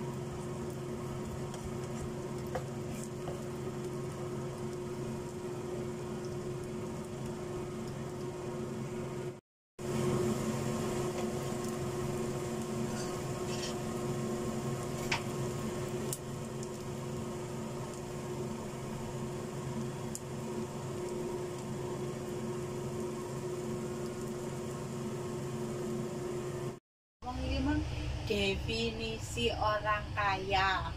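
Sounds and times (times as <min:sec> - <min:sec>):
pancake frying in oil: 0:00.0 - 0:26.8
stove appliance hum: 0:00.0 - 0:30.9.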